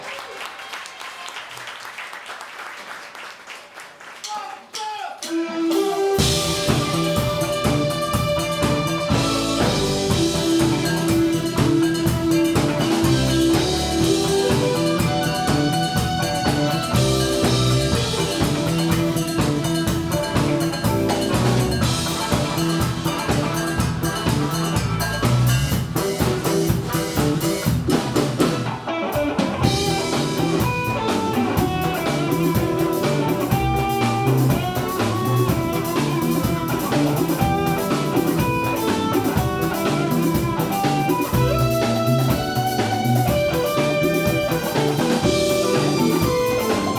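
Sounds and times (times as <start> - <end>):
band music: 4.8 - 46.9
drum kit beat: 4.8 - 46.9.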